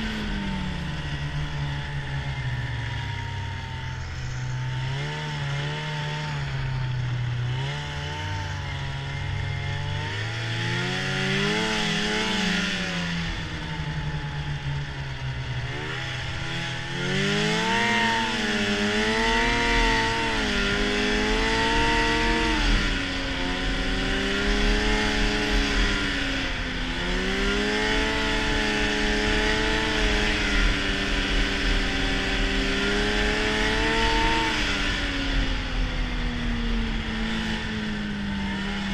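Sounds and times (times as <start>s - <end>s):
steady rushing noise: 0.0s - 31.7s
snowmobile engine revving: 0.0s - 38.9s.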